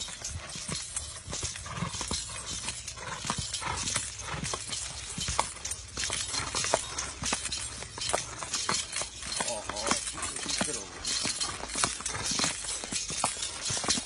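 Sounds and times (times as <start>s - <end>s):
horse hooves on dirt: 0.0s - 14.0s.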